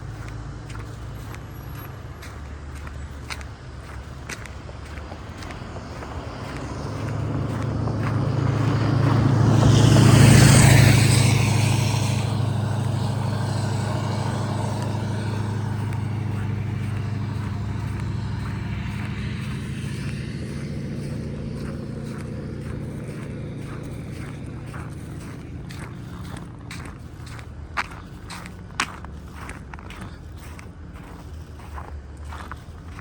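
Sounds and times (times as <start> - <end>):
vehicle driving past: 0.0 - 33.0.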